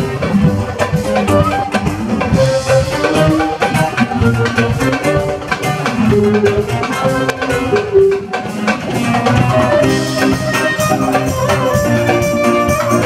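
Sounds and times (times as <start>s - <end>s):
drum kit beat: 0.0s - 13.0s
live band playing: 0.0s - 13.0s.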